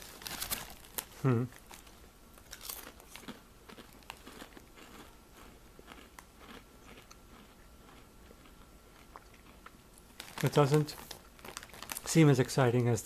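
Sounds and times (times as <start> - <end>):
person chewing potato chips: 0.0 - 12.1.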